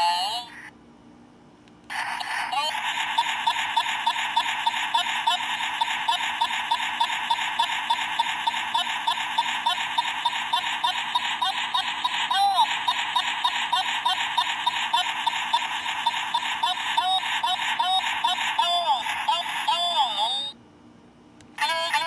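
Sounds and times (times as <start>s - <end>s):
swooping electronic voice: 0.0s - 0.7s, 1.9s - 20.6s
high electronic toy chatter: 1.9s - 20.6s, 21.6s - 22.0s.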